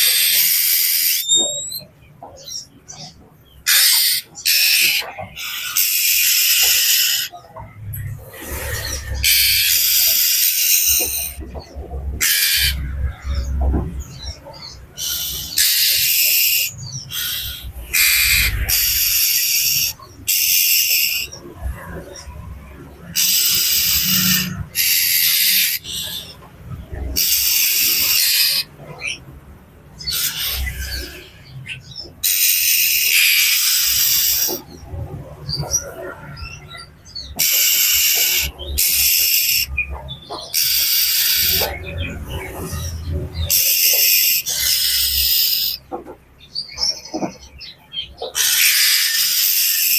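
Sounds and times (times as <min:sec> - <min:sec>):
bird chirps: 0:00.0 - 0:29.3, 0:30.0 - 0:49.9
bird harsh rasping calls: 0:00.0 - 0:49.9.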